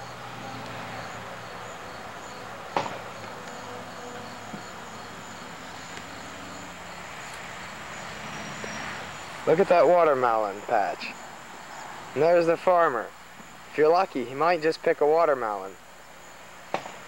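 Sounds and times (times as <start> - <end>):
crickets chirping: 0.0 - 17.0
steady hiss and low hum: 0.0 - 17.0.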